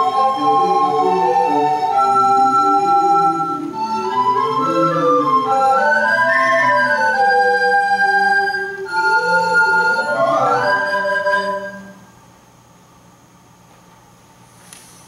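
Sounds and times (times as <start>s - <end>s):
recorder ensemble playing: 0.0s - 12.1s.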